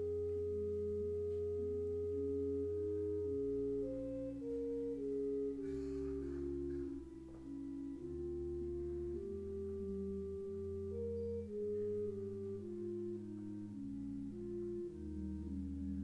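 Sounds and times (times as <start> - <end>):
slow soft instrumental music: 0.0 - 16.0.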